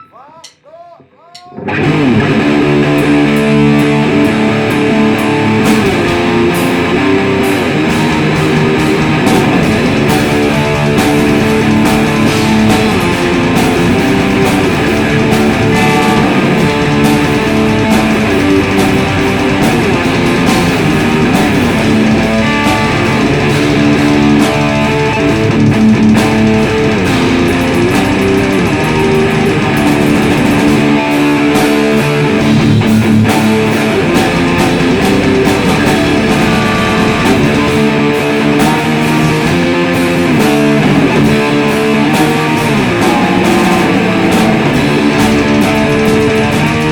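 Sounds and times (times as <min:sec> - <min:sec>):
drums: 0:00.0 - 0:46.9
electric guitar riffing: 0:00.0 - 0:46.9.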